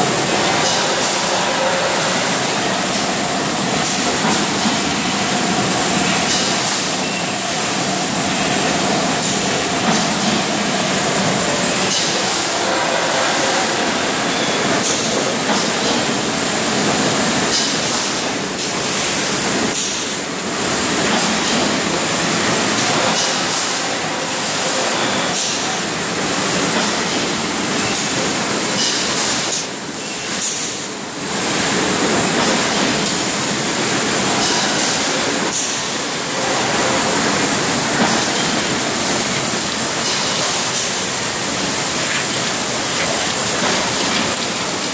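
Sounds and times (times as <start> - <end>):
bottling machine running: 0.0 - 44.9.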